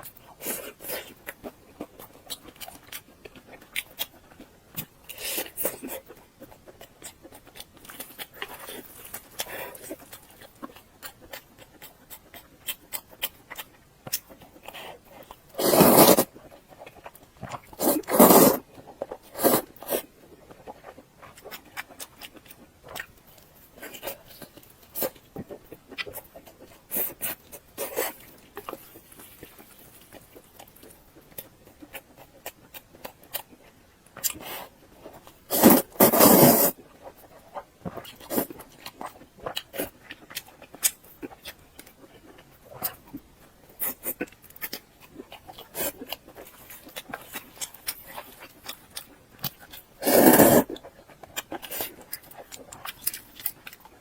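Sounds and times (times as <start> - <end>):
wet chewing and mouth clicks: 0.0 - 54.0.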